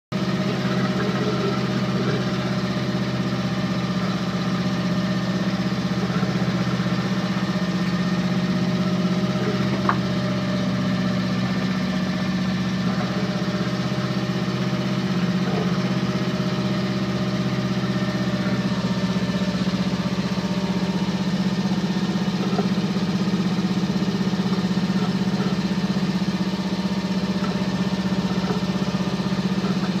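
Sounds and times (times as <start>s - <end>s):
boat engine running: 0.1s - 30.0s
water rushing along hull: 0.3s - 30.0s.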